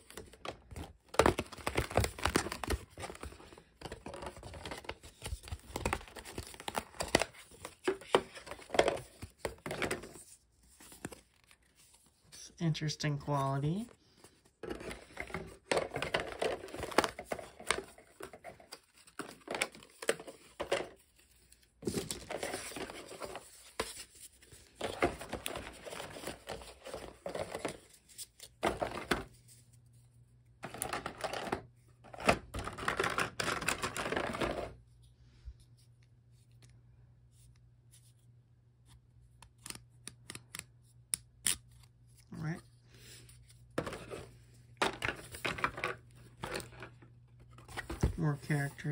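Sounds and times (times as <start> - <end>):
cardboard and cards rustling: 0.0 - 48.9.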